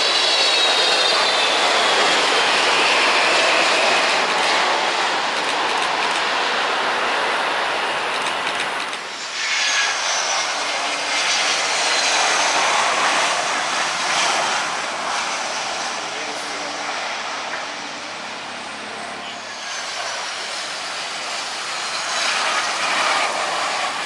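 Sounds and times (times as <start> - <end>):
high turbine whine: 0.0 - 24.0
jet airliner engine noise: 0.0 - 24.0.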